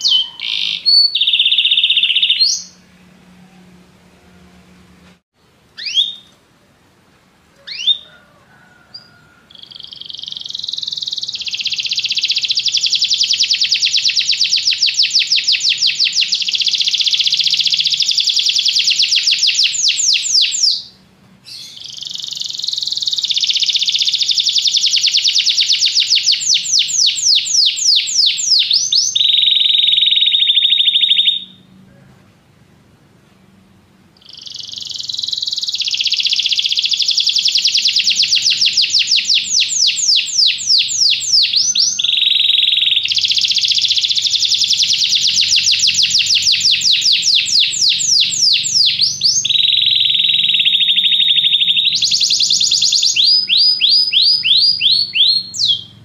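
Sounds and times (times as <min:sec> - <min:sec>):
canary singing trills: 0:00.0 - 0:04.7, 0:05.8 - 0:06.3, 0:07.6 - 0:08.1, 0:08.9 - 0:31.7, 0:34.2 - 0:56.0.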